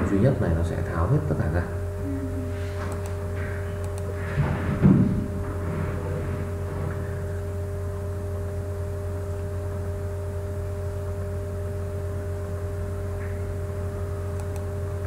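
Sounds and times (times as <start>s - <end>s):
low electrical drone: 0.0s - 15.0s.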